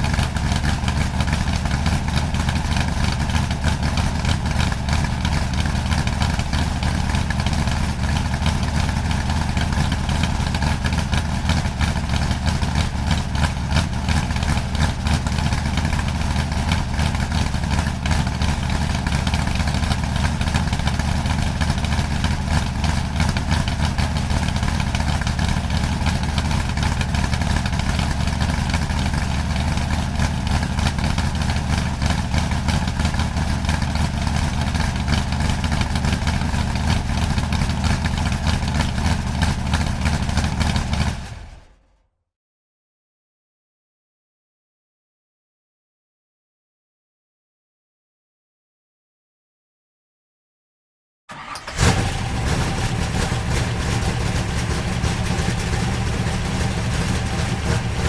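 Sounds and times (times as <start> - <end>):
vehicle engine idling: 0.0 - 41.8, 51.3 - 58.0.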